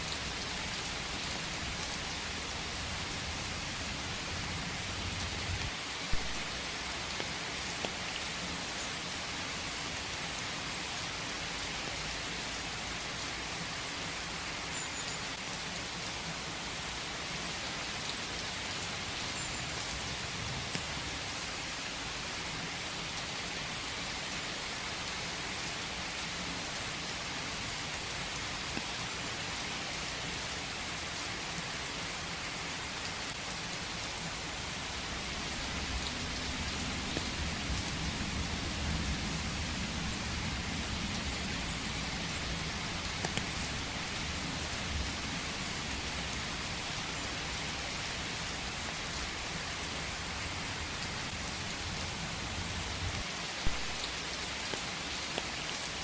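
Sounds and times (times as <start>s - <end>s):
rain hissing in forest: 0.0s - 56.0s.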